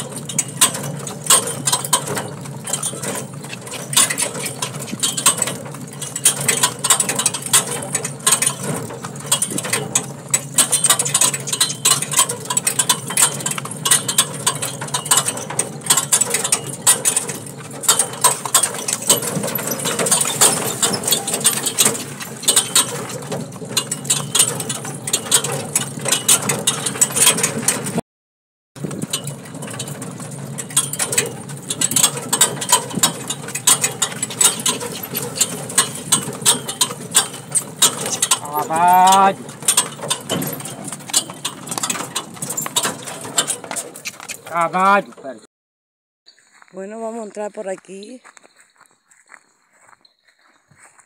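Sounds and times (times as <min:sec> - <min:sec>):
cart clattering and rattling: 0:00.0 - 0:28.0, 0:28.8 - 0:45.5
horse hoofbeats: 0:00.0 - 0:28.0, 0:28.8 - 0:45.4.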